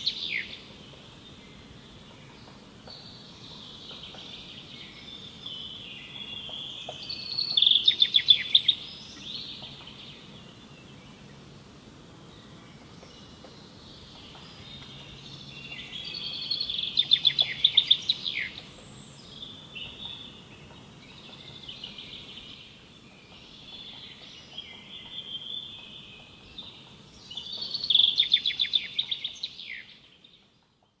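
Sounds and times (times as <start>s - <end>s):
songbird singing with trills: 0.0s - 11.5s, 12.2s - 31.0s
soft bird chirps and warbles: 0.0s - 31.0s.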